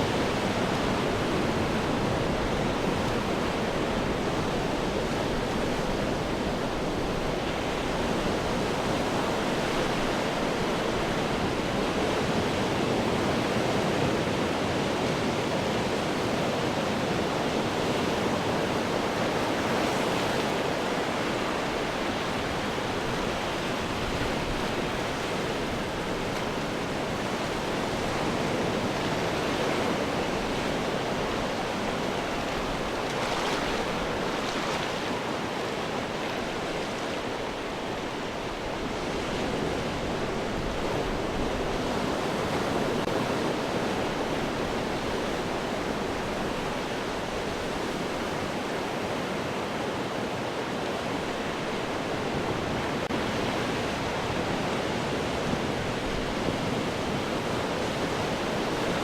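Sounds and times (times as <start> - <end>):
surf washing against rocks: 0.0 - 59.0.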